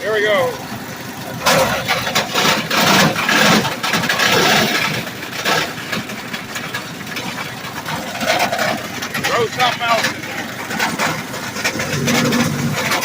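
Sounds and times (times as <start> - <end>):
loud clattering rush of shredding: 0.0 - 13.0
wood chipper engine running: 0.0 - 13.0.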